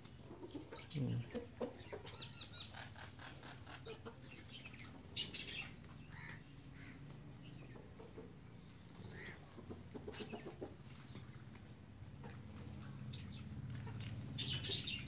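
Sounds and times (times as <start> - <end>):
chickens chirping and calling: 0.0 - 15.0.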